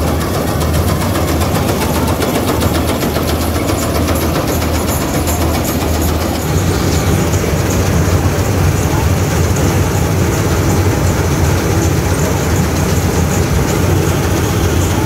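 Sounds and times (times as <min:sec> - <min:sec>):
clatter of threshing machinery: 0:00.0 - 0:15.0
diesel engine droning: 0:00.0 - 0:15.0.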